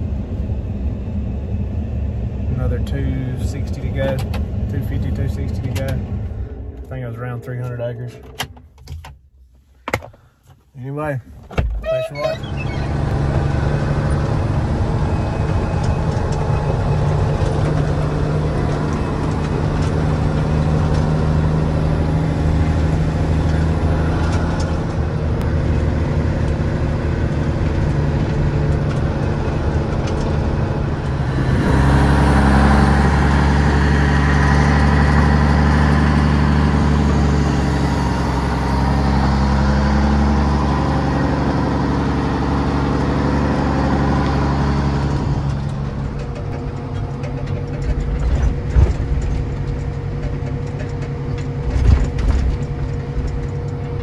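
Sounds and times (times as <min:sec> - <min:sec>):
truck engine from inside cab: 0:00.0 - 0:54.0.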